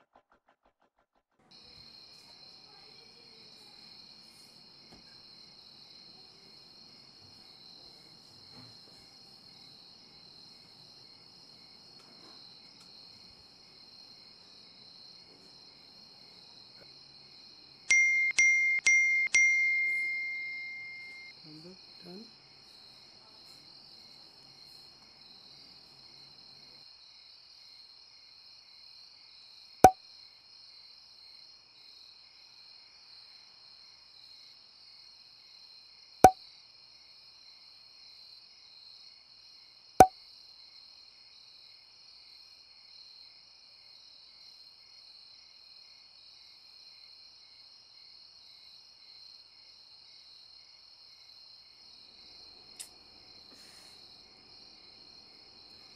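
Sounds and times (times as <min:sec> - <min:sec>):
crickets chirping: 0:01.6 - 0:55.9.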